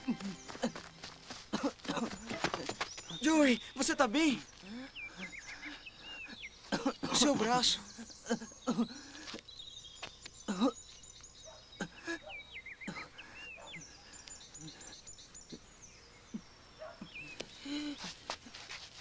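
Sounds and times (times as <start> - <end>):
birds chirping and trilling: 0.0 - 18.4.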